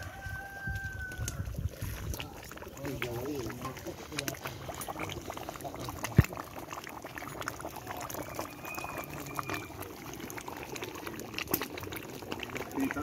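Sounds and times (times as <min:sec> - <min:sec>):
curry bubbling in a pan: 0:00.0 - 0:13.0
wood fire popping: 0:00.0 - 0:13.0.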